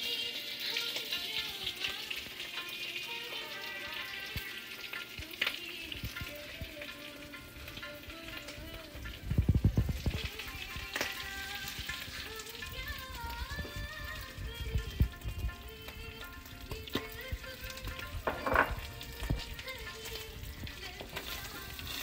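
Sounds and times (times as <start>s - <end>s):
background music: 0.0s - 22.0s
chicken sizzling in a pan: 0.0s - 22.0s.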